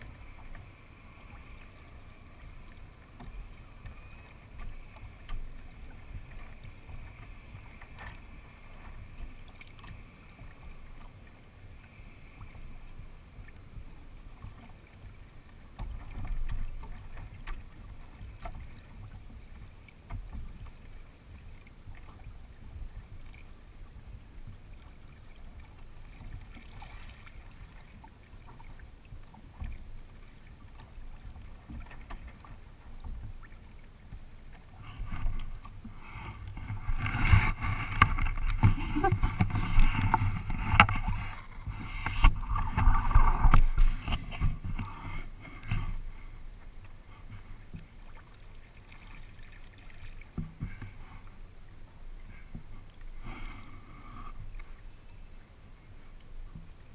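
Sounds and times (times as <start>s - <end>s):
water gurgling along kayak hull: 0.0s - 56.9s.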